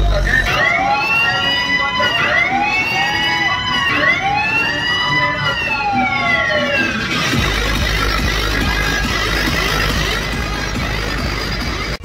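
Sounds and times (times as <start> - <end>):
swooping siren sound effect: 0.1 - 11.4.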